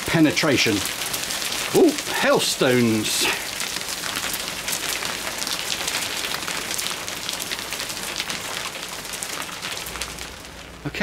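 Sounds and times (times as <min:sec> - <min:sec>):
hailstones pelting down: 0:00.0 - 0:11.0.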